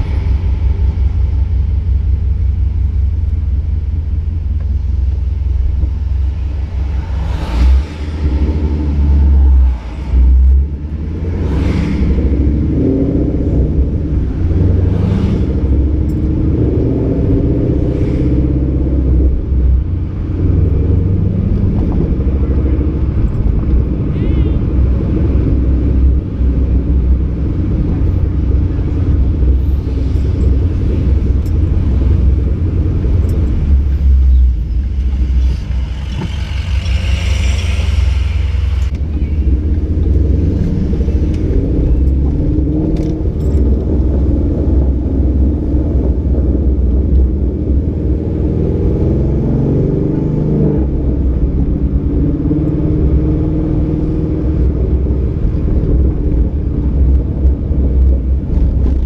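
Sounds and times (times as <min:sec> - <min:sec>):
car exhaust rumbling: 0:00.0 - 0:59.0.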